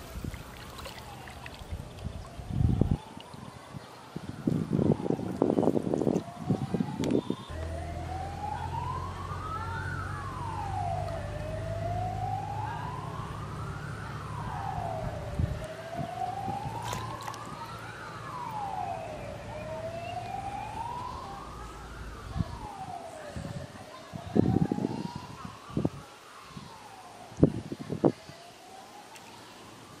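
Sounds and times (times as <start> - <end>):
wailing siren: 0.7 - 27.7, 28.5 - 30.0.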